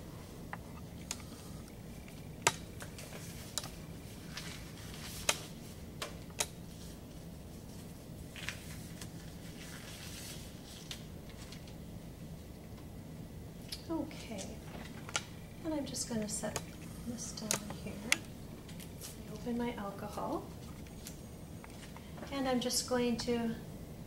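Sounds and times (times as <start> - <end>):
gloves rustling: 0.0 - 12.5, 14.4 - 22.4.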